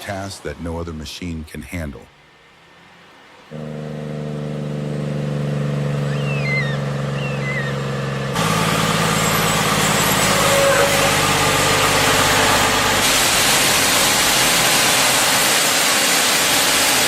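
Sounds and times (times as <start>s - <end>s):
large vehicle engine: 2.5s - 17.0s.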